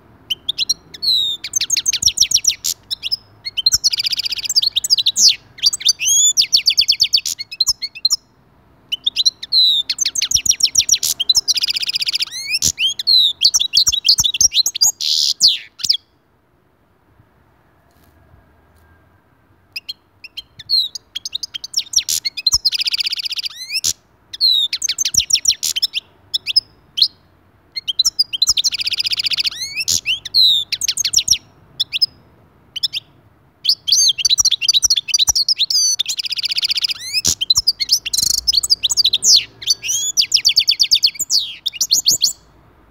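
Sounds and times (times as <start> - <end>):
bird twittering song: 0.3 - 16.1, 19.7 - 32.2, 32.8 - 42.5.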